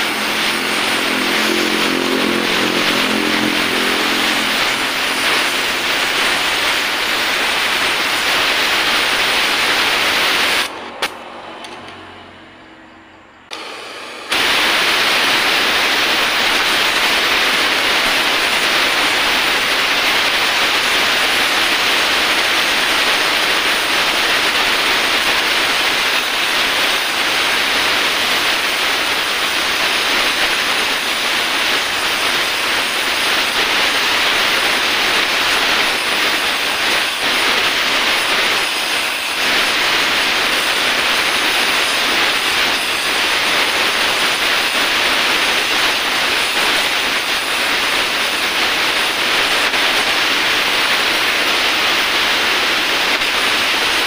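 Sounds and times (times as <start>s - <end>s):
welding torch flame hissing: 0.0s - 11.8s, 13.5s - 54.0s.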